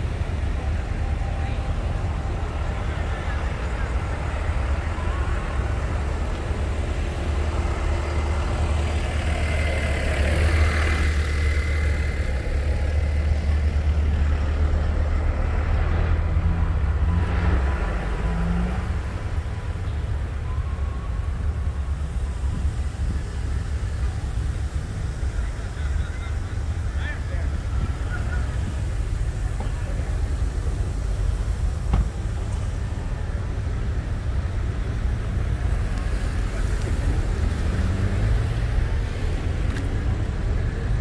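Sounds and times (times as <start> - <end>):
slow traffic engine rumble: 0.0 - 41.0.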